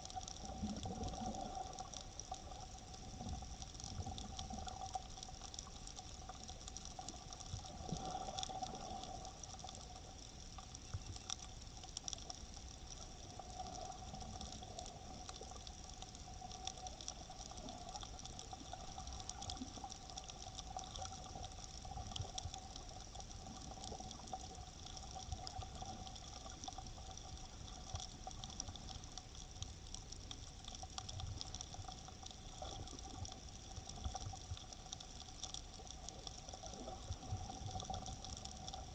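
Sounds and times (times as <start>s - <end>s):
faint steady hum: 0.0s - 38.9s
underwater water noise: 0.0s - 38.9s.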